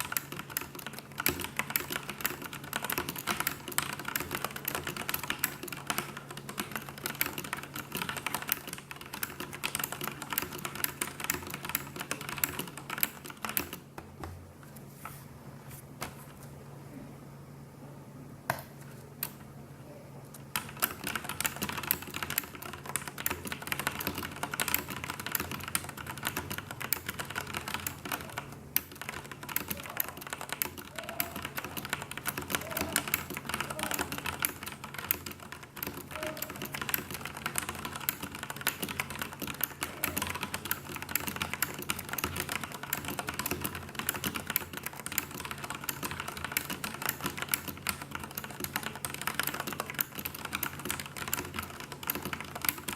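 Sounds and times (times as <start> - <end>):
mechanical keyboard typing: 0.0 - 13.9, 20.5 - 52.9
faint low hum: 0.0 - 52.9.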